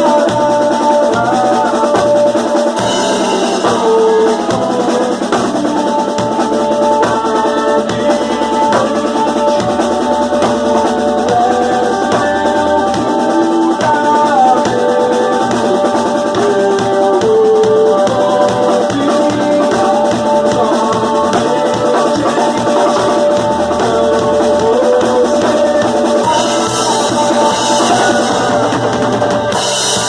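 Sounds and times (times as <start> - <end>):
snare and bass drums: 0.0 - 30.0.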